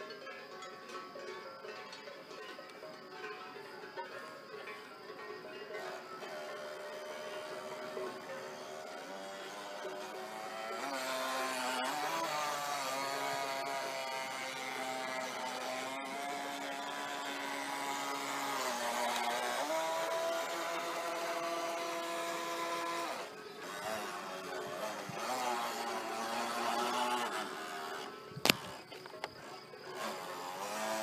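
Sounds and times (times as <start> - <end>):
model boat motor whining: 5.7 - 31.0.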